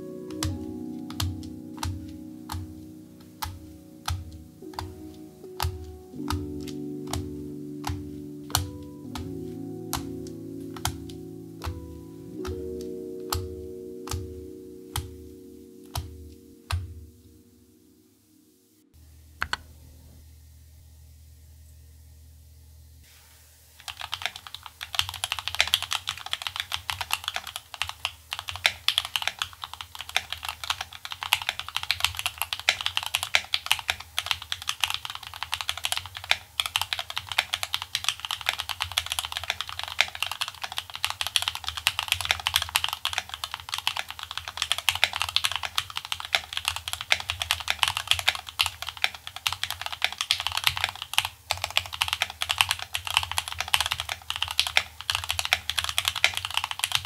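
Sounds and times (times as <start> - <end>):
mechanical keyboard typing: 0.0 - 17.0, 23.8 - 57.0.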